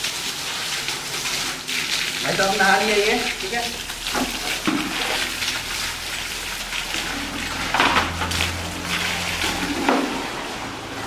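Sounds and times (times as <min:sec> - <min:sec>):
water splashing from pump outlet: 0:00.0 - 0:11.0.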